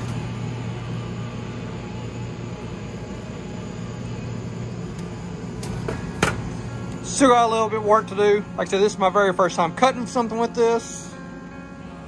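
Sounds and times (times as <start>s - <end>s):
fan running with air rush: 0.0s - 12.0s.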